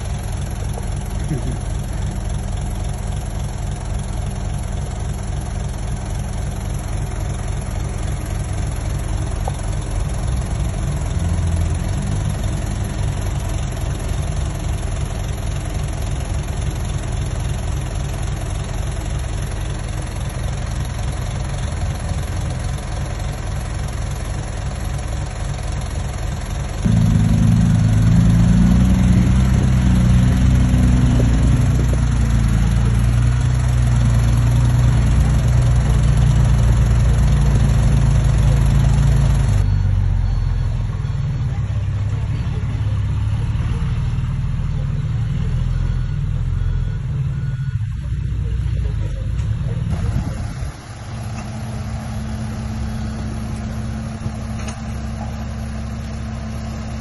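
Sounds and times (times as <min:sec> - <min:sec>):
diesel truck engines idling: 0:00.0 - 0:57.0.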